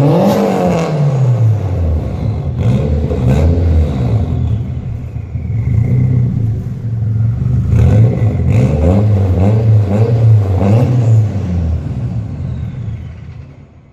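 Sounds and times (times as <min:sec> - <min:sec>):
engine throttle blips: 0:00.0 - 0:13.9
car engine idling: 0:01.4 - 0:13.9.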